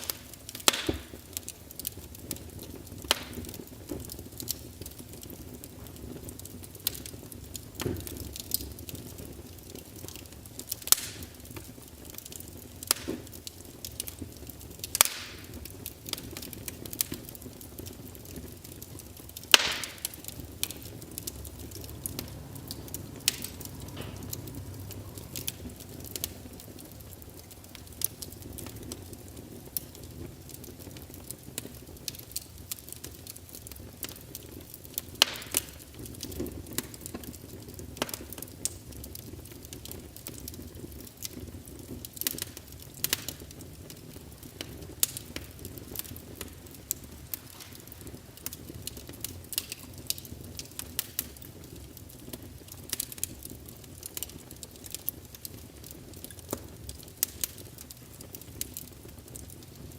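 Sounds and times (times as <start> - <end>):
sharp pops and snaps: 0.0 - 5.3, 10.0 - 59.6
rush of flame: 0.0 - 51.5
wood fire crackling: 0.0 - 59.9.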